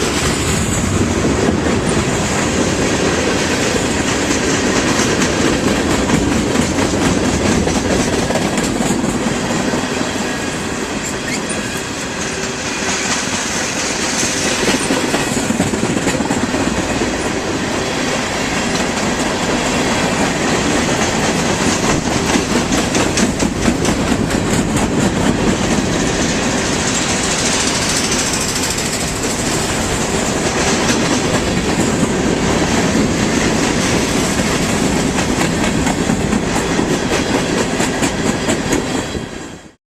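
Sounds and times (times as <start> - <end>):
wheel-on-rail noise: 0.0 - 39.7
clickety-clack over rail joints: 0.0 - 39.8.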